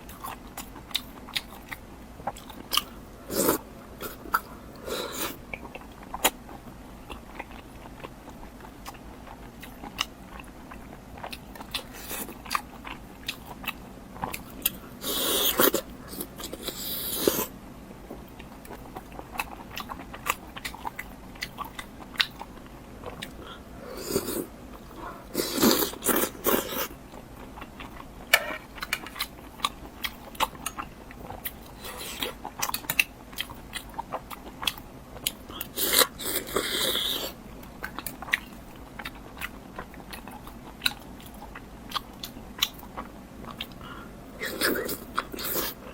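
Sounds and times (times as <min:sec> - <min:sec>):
person chewing and crunching food: 0:00.0 - 0:45.9.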